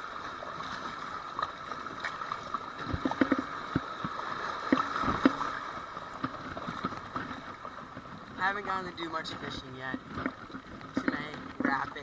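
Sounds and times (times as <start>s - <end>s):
rushing river water: 0.0s - 12.0s
paddle splashes and knocks: 1.4s - 12.0s.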